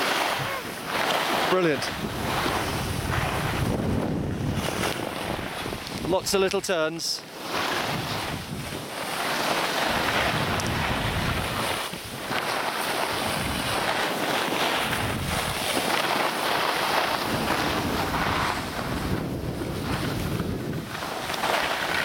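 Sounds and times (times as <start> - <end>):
skis scraping on snow: 0.0 - 22.0
wind on microphone: 0.0 - 22.0.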